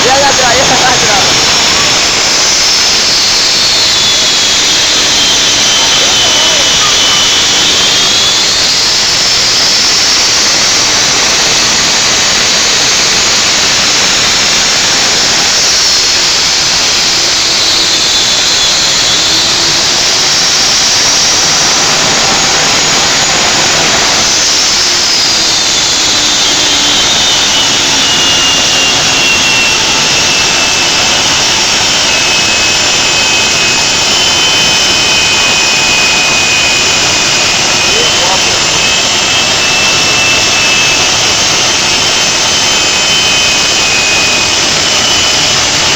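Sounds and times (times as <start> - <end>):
high whine: 0.0 - 45.9
race car engine running: 0.0 - 45.9.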